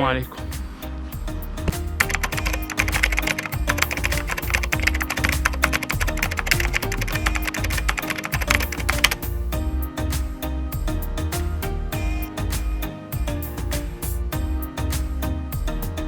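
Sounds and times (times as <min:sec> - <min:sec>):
music with held bass notes: 0:00.0 - 0:16.0
rapid clicking percussion: 0:00.2 - 0:16.0.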